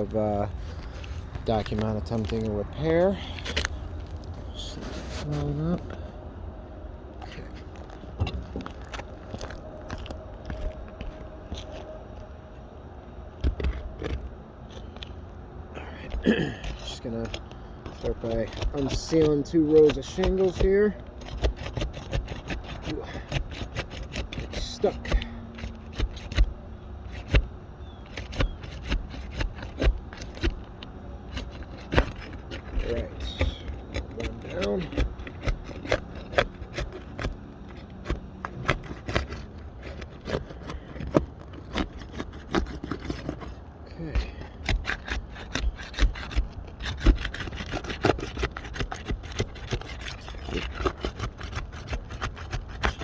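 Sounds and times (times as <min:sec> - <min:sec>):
tool scraping under shingle: 0:00.0 - 0:06.2, 0:07.1 - 0:12.4, 0:13.3 - 0:15.2, 0:15.8 - 0:53.0.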